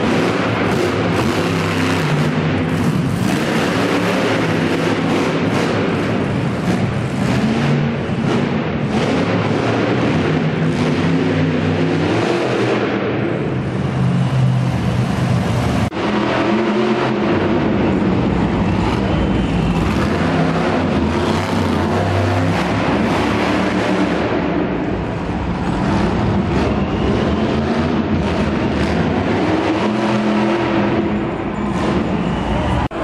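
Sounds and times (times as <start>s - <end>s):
monster truck engines revving: 0.0s - 33.0s.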